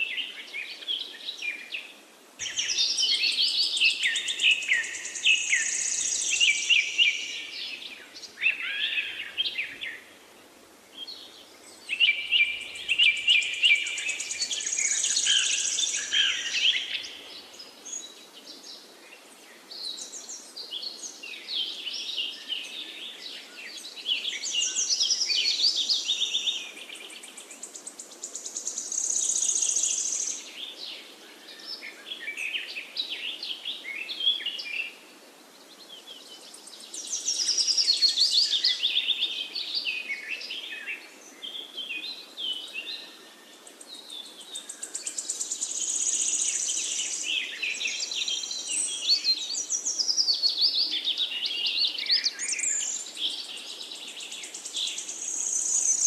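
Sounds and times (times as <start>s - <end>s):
faint background hiss: 0.0s - 56.0s
songbirds singing: 0.0s - 56.0s.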